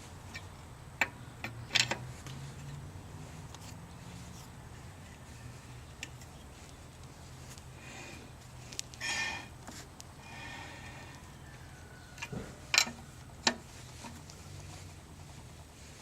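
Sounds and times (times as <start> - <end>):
low steady hum: 0.0 - 16.0
scraping rustle: 1.8 - 16.0.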